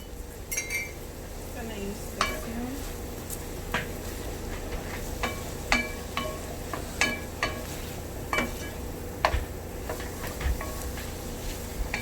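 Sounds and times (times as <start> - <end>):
faint sizzle of frying: 0.0 - 12.0.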